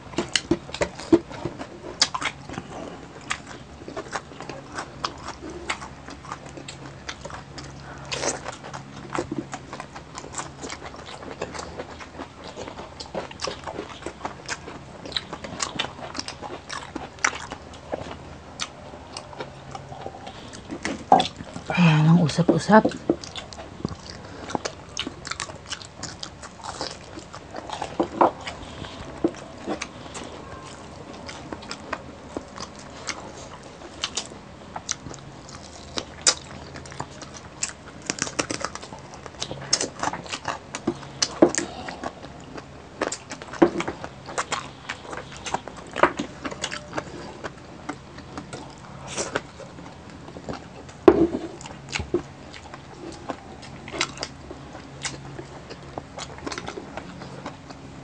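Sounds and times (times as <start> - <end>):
chewing crispy food crunches: 0.0 - 58.0.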